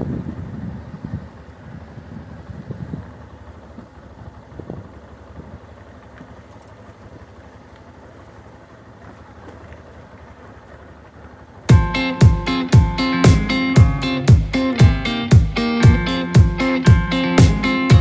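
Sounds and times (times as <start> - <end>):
low thumps over potholes: 0.0 - 18.0
motorcycle engine running: 0.0 - 18.0
road and wind noise: 0.0 - 18.0.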